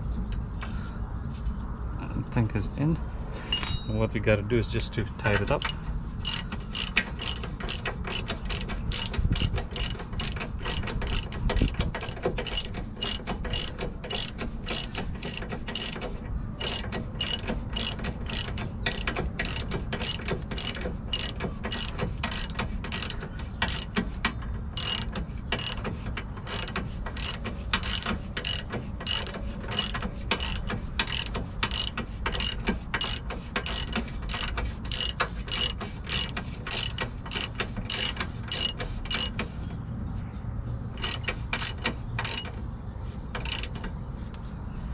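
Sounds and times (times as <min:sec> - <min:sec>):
socket ratchet clicking: 0:05.4 - 0:39.5, 0:41.0 - 0:42.5, 0:43.4 - 0:43.8.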